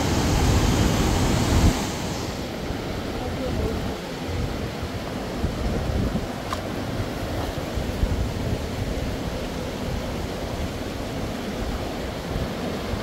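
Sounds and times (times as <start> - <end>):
rushing river water: 0.0 - 13.0
wind buffeting microphone: 0.0 - 13.0.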